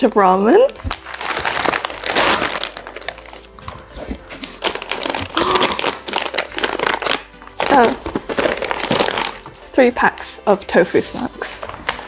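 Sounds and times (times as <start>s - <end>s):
plastic packaging crinkling: 0.7s - 9.7s, 11.0s - 12.0s.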